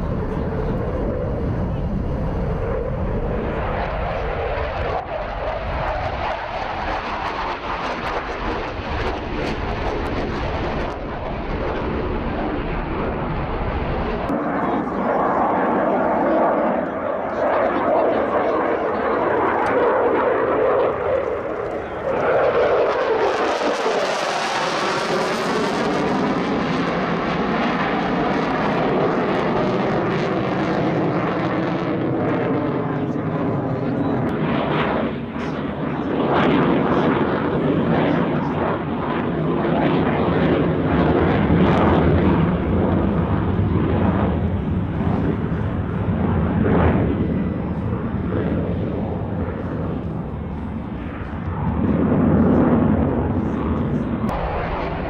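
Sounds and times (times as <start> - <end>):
fighter jet flying overhead: 0.0 - 55.0.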